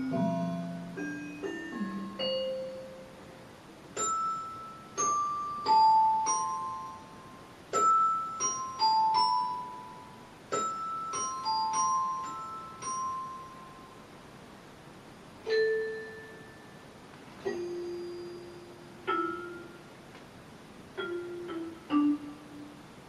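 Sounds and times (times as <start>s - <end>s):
bell-like keyboard melody: 0.0s - 3.3s, 4.0s - 14.0s, 15.4s - 19.9s, 21.0s - 22.8s.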